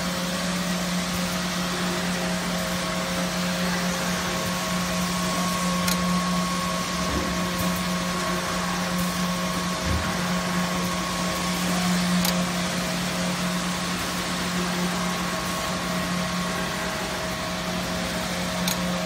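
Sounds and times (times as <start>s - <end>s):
woodworking machinery whirring: 0.0s - 19.0s.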